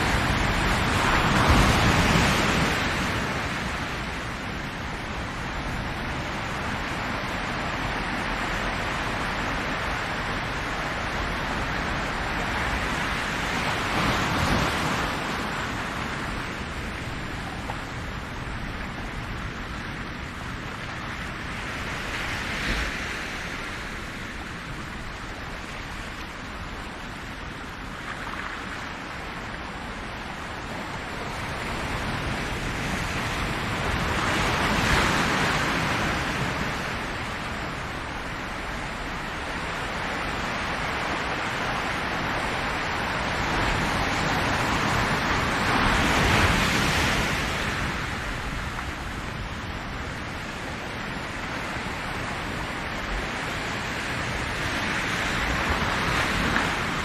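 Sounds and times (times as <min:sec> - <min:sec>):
ocean waves on shore: 0:00.0 - 0:57.0.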